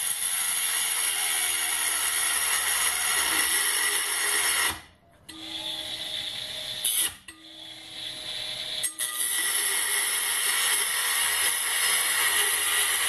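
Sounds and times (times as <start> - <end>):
rotary tool whining: 0.0 - 13.0
disc grinding steel: 0.8 - 13.0.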